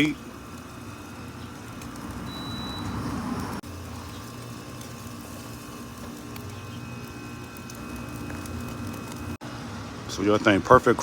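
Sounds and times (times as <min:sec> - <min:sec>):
faint crackles: 0:00.0 - 0:09.4
steaks sizzling on grill: 0:00.0 - 0:09.4.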